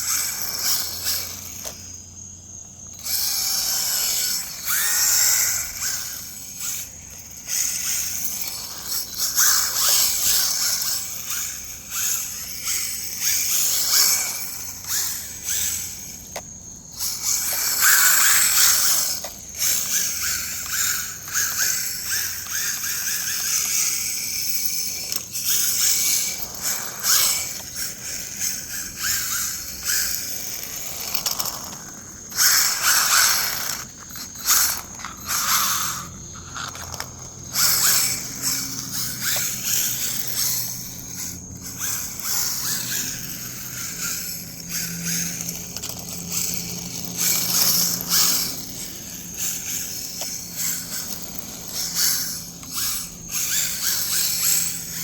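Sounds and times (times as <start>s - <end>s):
rc car motor whining: 0.0s - 55.0s.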